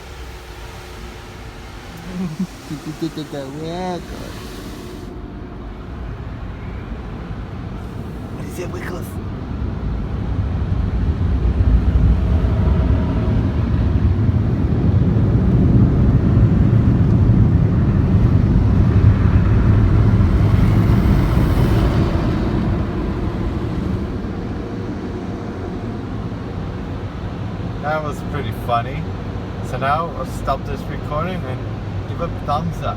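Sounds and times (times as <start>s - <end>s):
car wash machinery roaring: 0.0s - 32.9s.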